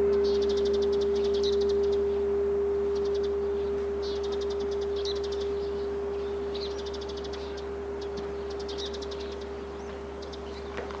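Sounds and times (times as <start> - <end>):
small birds trilling: 0.0 - 11.0
temple bell humming: 0.0 - 11.0.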